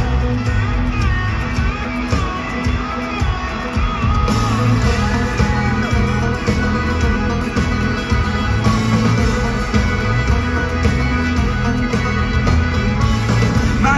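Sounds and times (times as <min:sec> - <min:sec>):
live country-rock band: 0:00.0 - 0:13.9.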